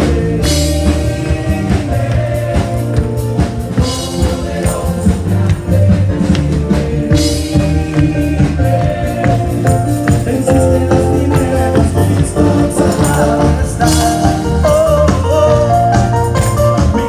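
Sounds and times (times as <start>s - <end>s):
gospel band playing: 0.0s - 17.0s
person singing: 0.0s - 17.0s.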